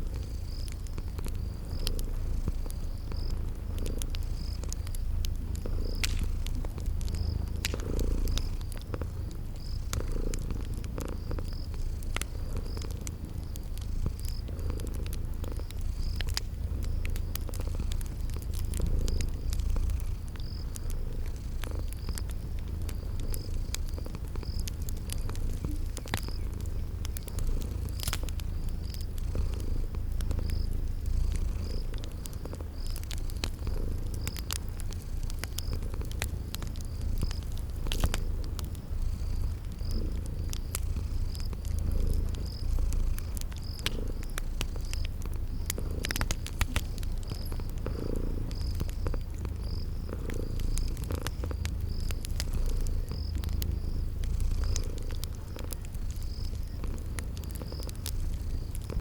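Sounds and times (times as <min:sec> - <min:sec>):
cat purring: 0:00.0 - 0:59.0
cricket chirping: 0:00.0 - 0:59.0
fire crackling: 0:00.0 - 0:59.0.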